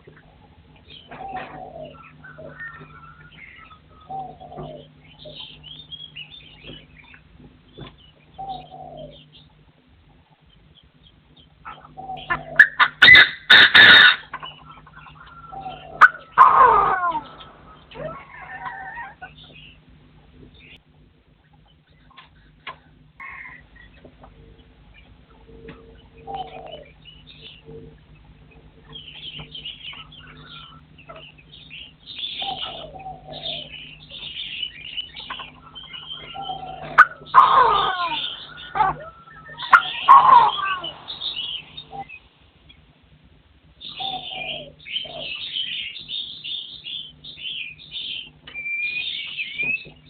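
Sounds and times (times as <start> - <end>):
partridge calling: 0.9 - 9.6, 10.6 - 19.8, 21.4 - 42.8, 43.8 - 50.0.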